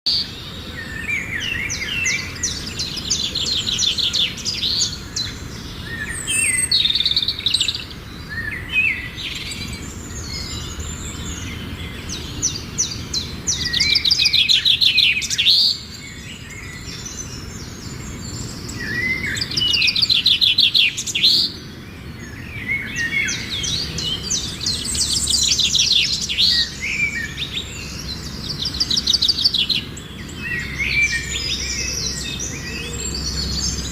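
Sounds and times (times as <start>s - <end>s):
finches chirping and trilling: 0.2s - 33.9s.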